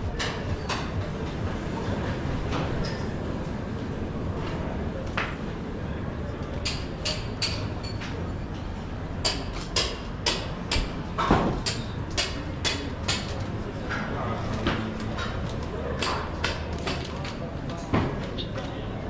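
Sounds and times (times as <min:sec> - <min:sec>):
background hum and murmur: 0:00.0 - 0:19.0.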